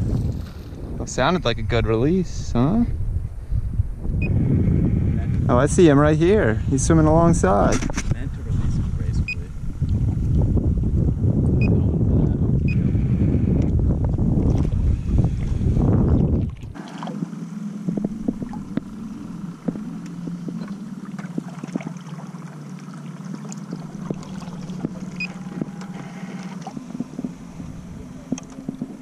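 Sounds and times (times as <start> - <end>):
wind buffeting microphone: 0.0 - 22.3, 23.2 - 29.0
small boat motor droning: 4.1 - 29.0.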